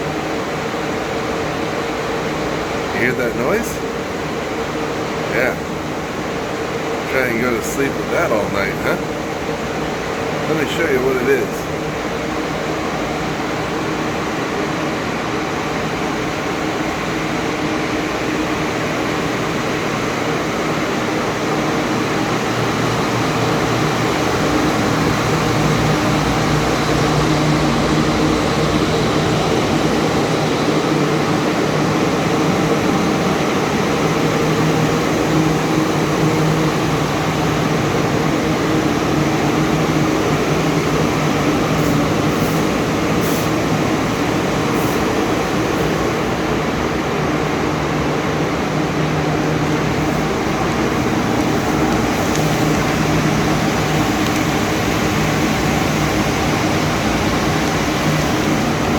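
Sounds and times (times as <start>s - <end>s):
electric fans droning: 0.0s - 58.9s.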